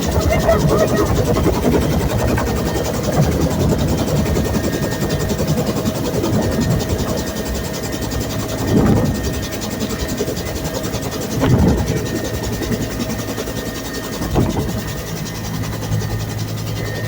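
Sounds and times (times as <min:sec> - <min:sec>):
helicopter rotor noise: 0:00.0 - 0:17.0
helicopter turbine whine: 0:00.0 - 0:17.0.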